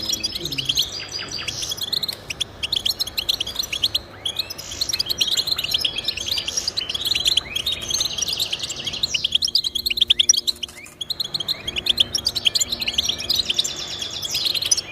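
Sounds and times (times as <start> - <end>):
goldfinch twittering song: 0.0 - 14.9.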